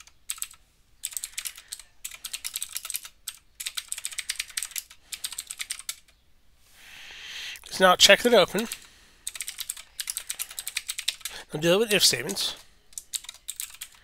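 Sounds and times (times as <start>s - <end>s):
typing on computer keyboard: 0.0s - 6.2s, 8.6s - 14.0s.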